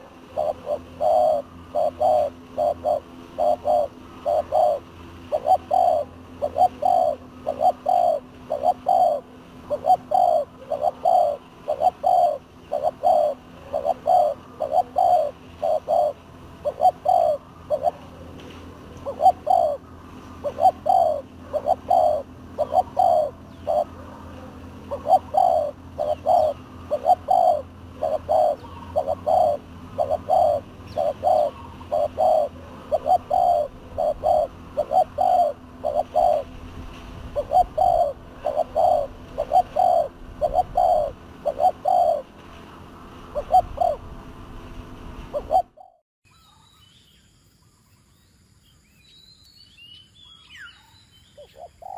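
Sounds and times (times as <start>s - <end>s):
doves cooing: 0.0s - 44.5s, 45.2s - 46.0s, 51.4s - 51.9s
low hum: 0.0s - 46.0s.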